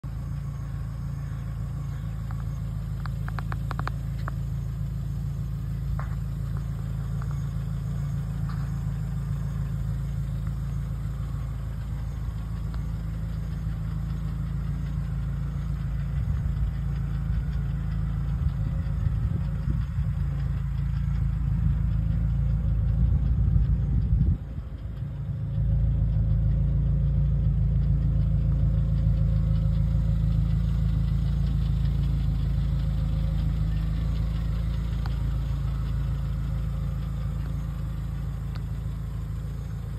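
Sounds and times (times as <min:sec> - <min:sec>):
rough low rumble: 0:00.0 - 0:39.9
truck engine idling: 0:00.0 - 0:39.9.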